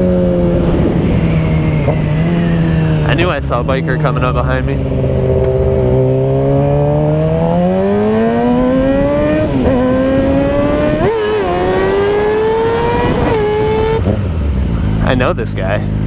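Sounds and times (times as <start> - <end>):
motorcycle engine accelerating hard: 0.0 - 16.0.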